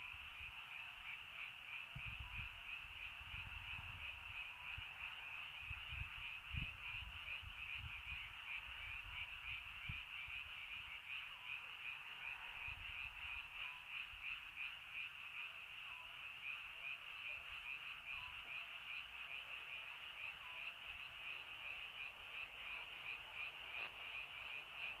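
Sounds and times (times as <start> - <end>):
chorus of frogs calling: 0.0 - 25.0.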